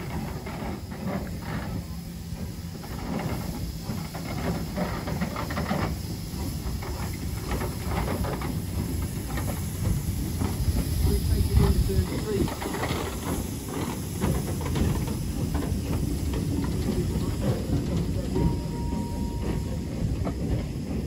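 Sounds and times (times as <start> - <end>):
locomotive low rumble: 0.0 - 21.0
steam hissing: 0.0 - 21.0.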